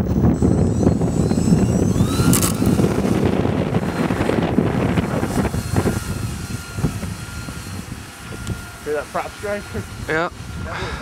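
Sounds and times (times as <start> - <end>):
gusty wind buffeting microphone: 0.0 - 11.0
model airplane motor whining: 0.0 - 11.0.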